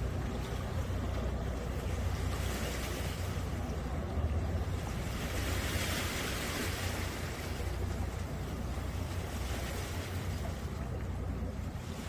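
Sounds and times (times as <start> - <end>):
small sea waves washing in: 0.0 - 12.0
wind rumbling on microphone: 0.0 - 12.0.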